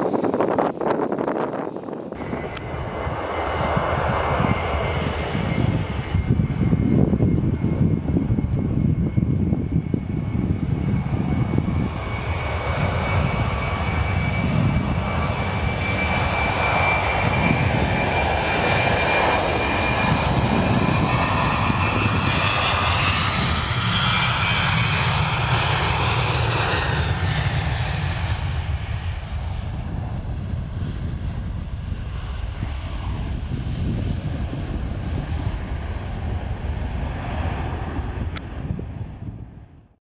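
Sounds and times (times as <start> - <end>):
jet engine high whine: 0.0 - 40.0
jet engines rumbling: 0.0 - 40.0.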